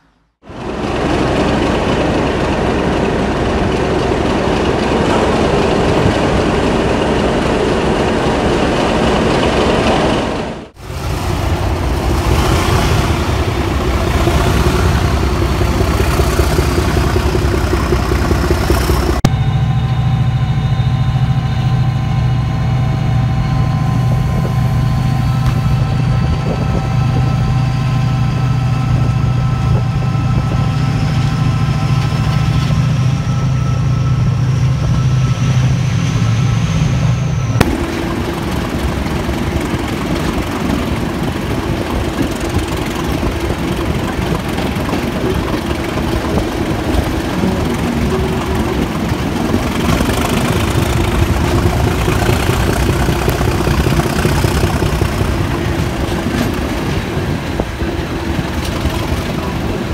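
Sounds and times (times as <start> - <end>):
diesel locomotive engine working hard: 0.0 - 59.9
diesel locomotive hum with rising whine: 0.0 - 59.9.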